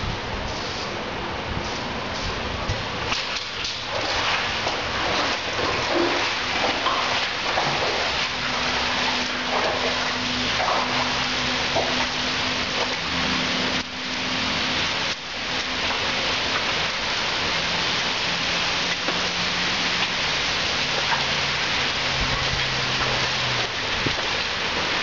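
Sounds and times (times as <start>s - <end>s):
rain splashing on concrete: 0.0s - 25.0s.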